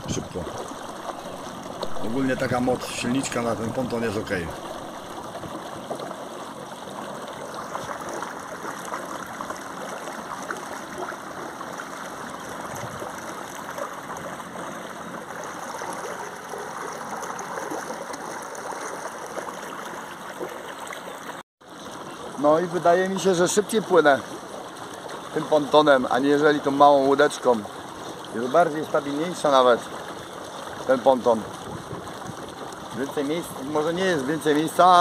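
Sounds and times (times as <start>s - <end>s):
water rushing and splashing: 0.0s - 35.0s.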